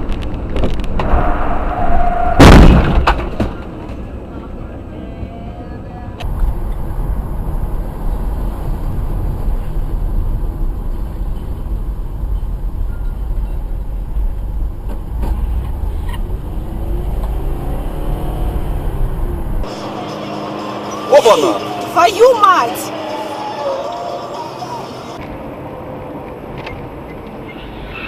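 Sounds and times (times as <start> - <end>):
car driving rumble: 0.0 - 27.9.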